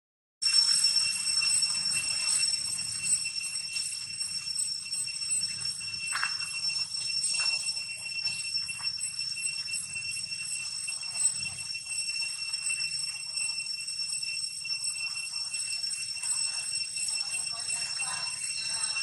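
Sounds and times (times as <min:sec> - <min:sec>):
high-pitched whine: 0:00.4 - 0:19.0.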